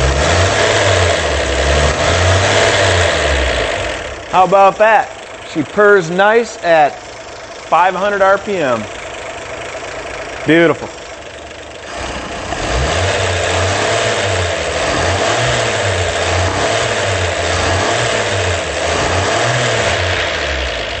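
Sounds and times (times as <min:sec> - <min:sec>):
inline-six engine running: 0:00.0 - 0:21.0.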